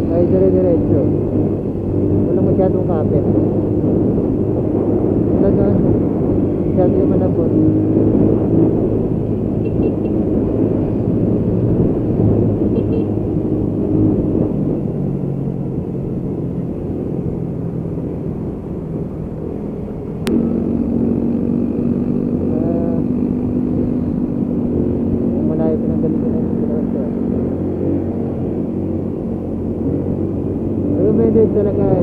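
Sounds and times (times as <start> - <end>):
motorcycle engine running: 0.0 - 32.0
wind rumbling on microphone: 0.0 - 32.0.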